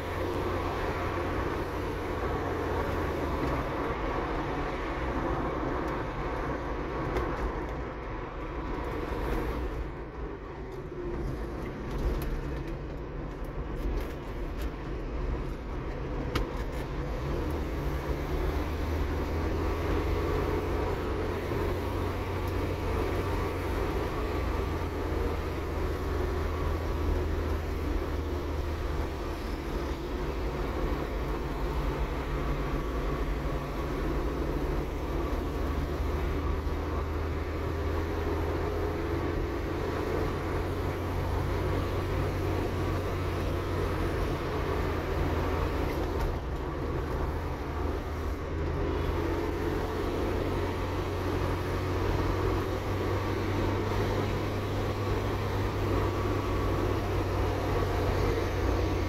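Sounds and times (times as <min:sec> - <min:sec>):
car engine rumble: 0:00.0 - 0:59.0
tyre and road noise: 0:00.0 - 0:59.0.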